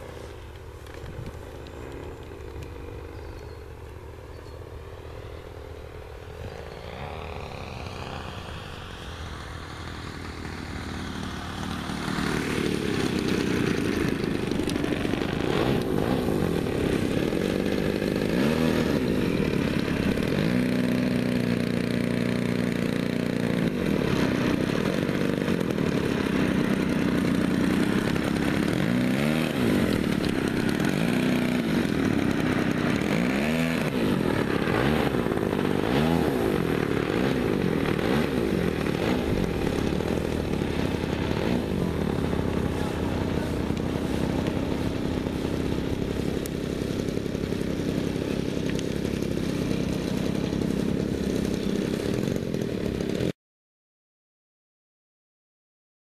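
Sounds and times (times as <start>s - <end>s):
model airplane engine and propeller: 0.0s - 53.4s.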